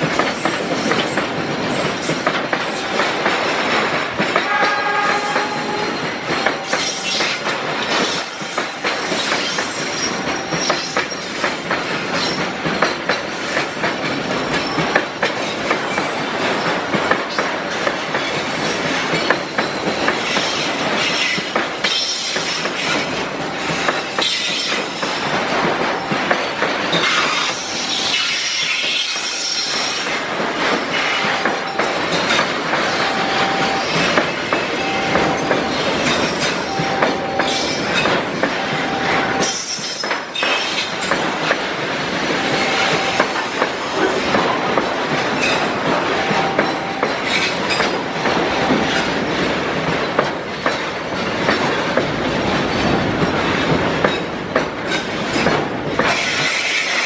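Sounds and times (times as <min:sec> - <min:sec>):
freight train rumbling and rattling: 0:00.0 - 0:57.0
wheels clacking over rail joints: 0:00.0 - 0:57.0.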